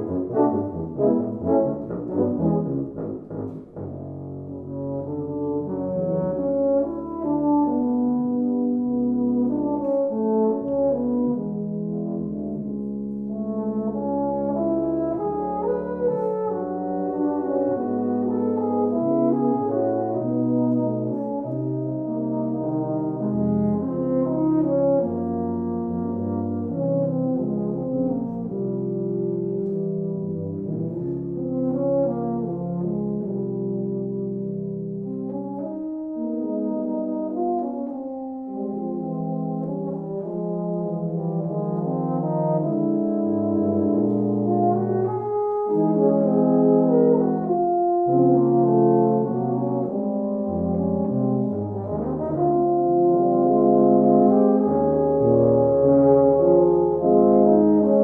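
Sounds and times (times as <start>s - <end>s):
tuba and euphonium quartet playing: 0.0s - 58.0s.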